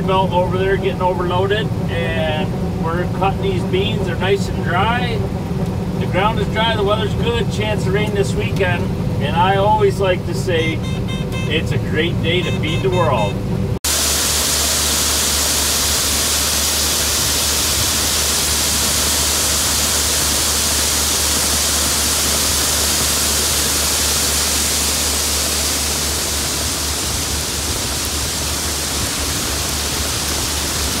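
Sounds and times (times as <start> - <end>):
tractor engine drone: 0.0 - 31.0.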